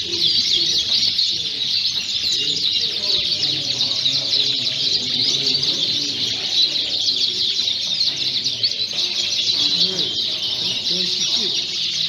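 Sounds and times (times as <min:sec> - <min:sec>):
canaries singing and chirping: 0:00.0 - 0:12.0
murmur of people talking: 0:00.0 - 0:12.0.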